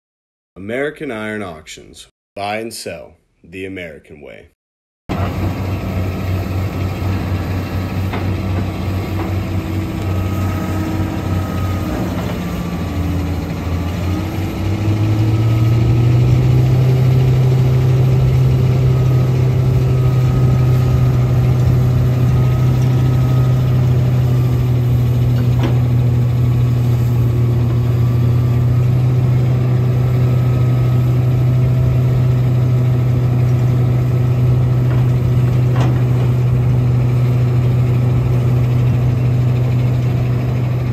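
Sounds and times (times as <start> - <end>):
excavator diesel engine revving: 5.1 - 40.9.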